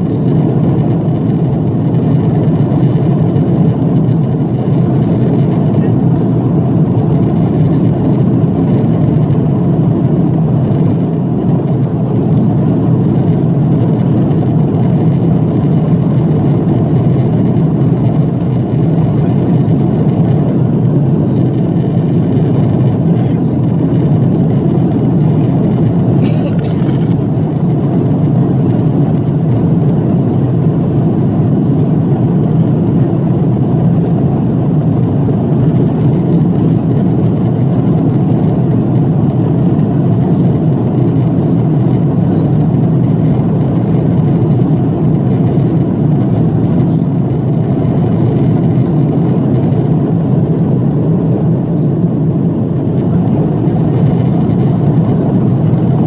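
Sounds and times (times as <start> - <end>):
air rushing along fuselage: 0.0 - 56.0
jet engines droning: 0.0 - 56.0.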